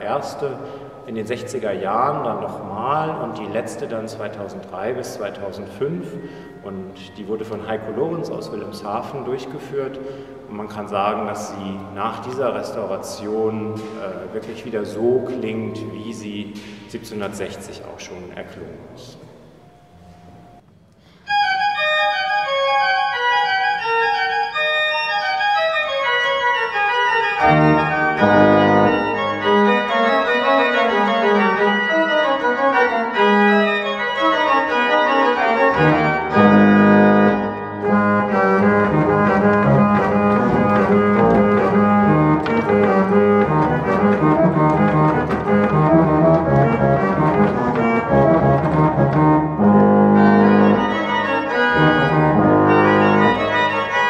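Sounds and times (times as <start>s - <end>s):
pipe organ playing: 0.0s - 18.6s, 21.3s - 54.0s.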